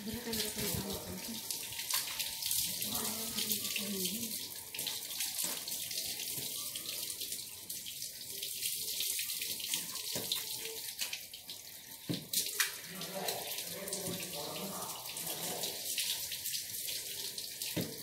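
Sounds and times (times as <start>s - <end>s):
water running from garden hose: 0.0s - 18.0s.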